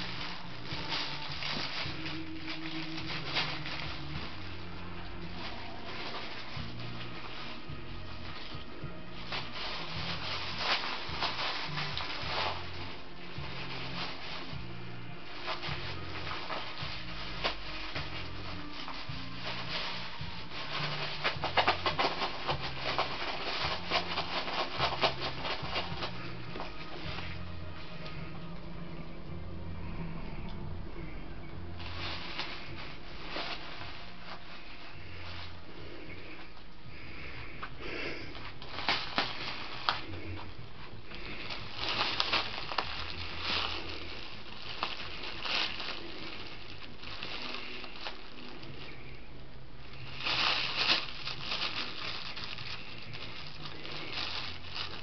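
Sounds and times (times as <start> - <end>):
scratchy rustling: 0.0 - 28.6, 31.0 - 55.0
background music with bass line: 0.0 - 55.0.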